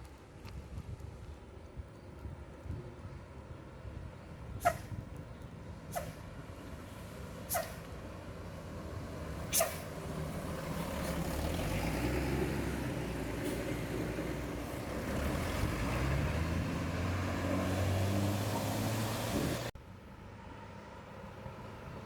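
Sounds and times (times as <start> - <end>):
heavy bus engine running: 3.0 - 22.0.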